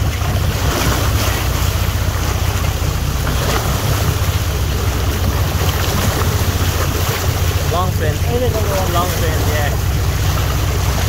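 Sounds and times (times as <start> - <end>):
sea noise: 0.0 - 11.0
steady low rumble: 0.0 - 11.0.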